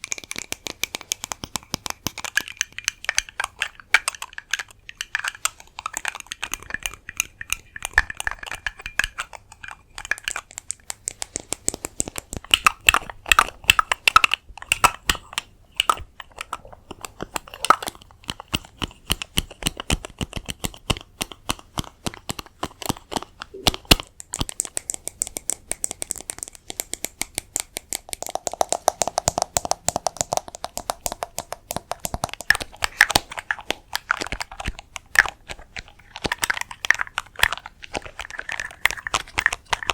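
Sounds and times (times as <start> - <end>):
rapid tapping on hard objects: 0.0 - 39.9.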